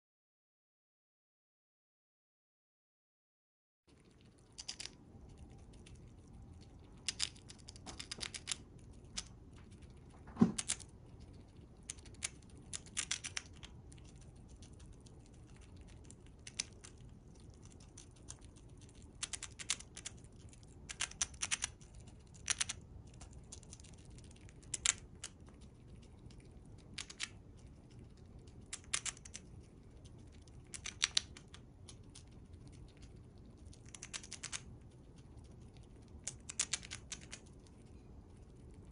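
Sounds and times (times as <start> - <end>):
chipmunk chewing food: 3.9 - 38.9.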